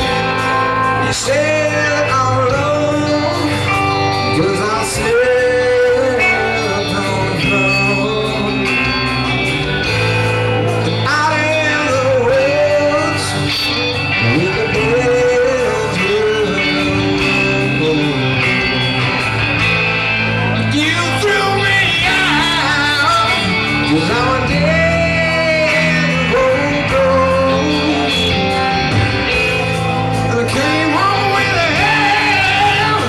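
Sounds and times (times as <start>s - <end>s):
man singing: 0.0s - 9.9s, 10.8s - 19.4s, 20.4s - 33.0s
drums: 0.0s - 33.0s
electric guitars: 0.0s - 33.0s.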